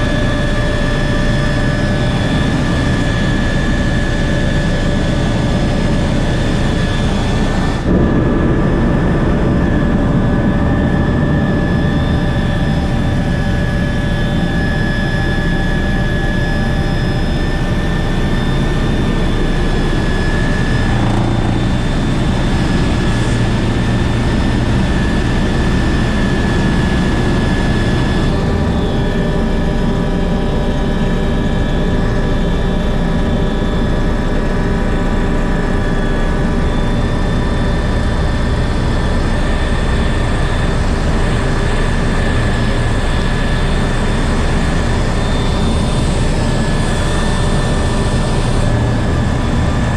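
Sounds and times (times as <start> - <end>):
helicopter rotor rumble: 0.0 - 49.9
turbine engine whine: 0.0 - 49.9.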